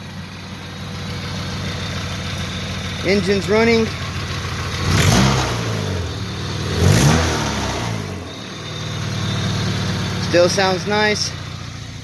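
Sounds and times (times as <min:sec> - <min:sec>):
car engine throttle blips and idle: 0:00.0 - 0:12.0.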